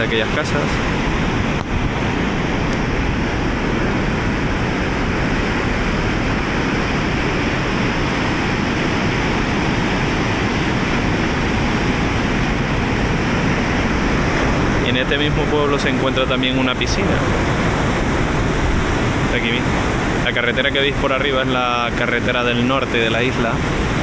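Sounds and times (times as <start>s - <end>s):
surf breaking on rocks: 0.0s - 24.0s.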